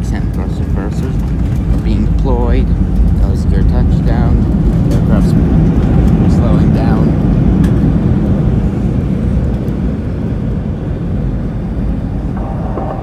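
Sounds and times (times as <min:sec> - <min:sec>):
jet engines in reverse thrust: 0:00.0 - 0:13.0
runway noise: 0:00.0 - 0:13.0.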